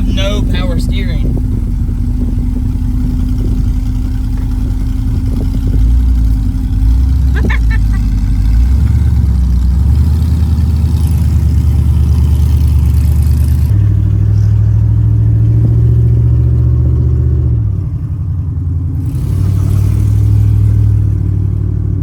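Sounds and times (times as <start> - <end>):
pickup truck engine shifting gears: 0.0 - 22.0.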